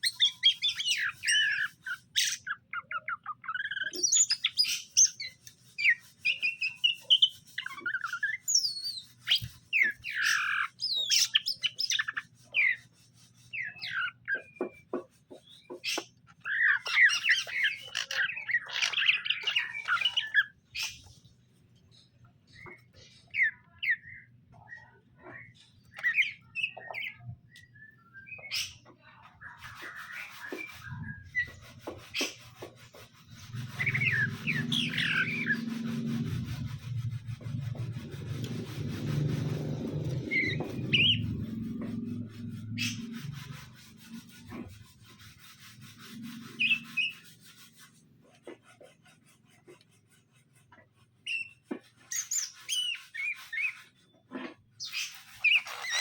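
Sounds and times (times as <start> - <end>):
birds chirping and whistling: 0.0 - 48.0, 51.2 - 56.0.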